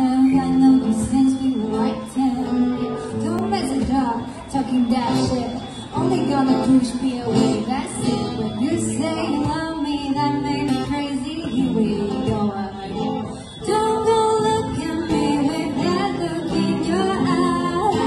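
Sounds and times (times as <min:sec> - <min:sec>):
acoustic guitar: 0:00.0 - 0:18.0
woman singing into a microphone: 0:00.0 - 0:18.0.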